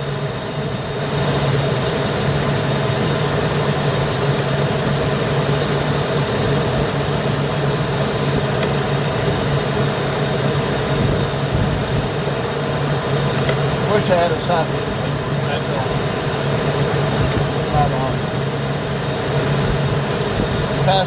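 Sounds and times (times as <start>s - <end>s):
motorhome engine idling: 0.0s - 21.0s.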